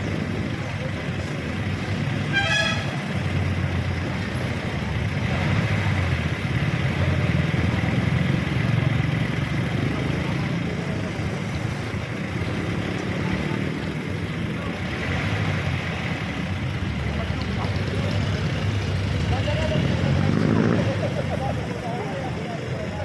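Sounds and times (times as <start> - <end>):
traffic engines rumbling: 0.0 - 23.0.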